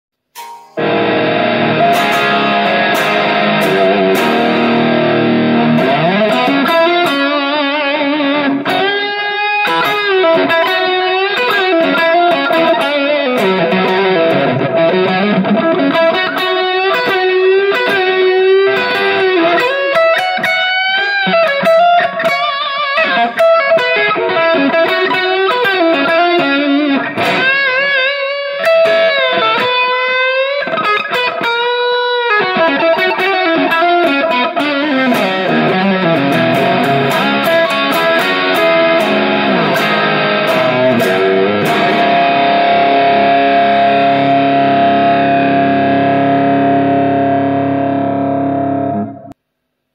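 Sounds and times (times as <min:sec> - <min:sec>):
electric guitar lead line: 0:00.2 - 0:49.4.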